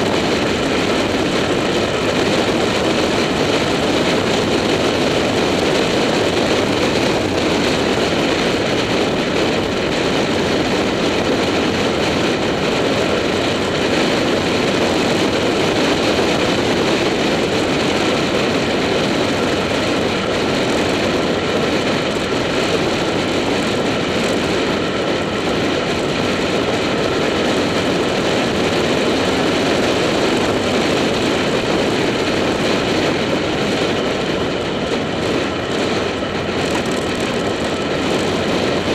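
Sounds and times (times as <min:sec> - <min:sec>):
motorcycle engine cruising: 0:00.0 - 0:38.9
wind and road noise: 0:00.0 - 0:38.9.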